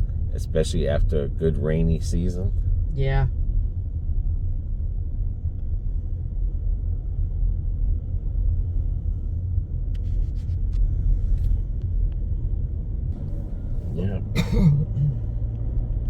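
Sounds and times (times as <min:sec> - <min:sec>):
car road rumble: 0:00.0 - 0:16.0.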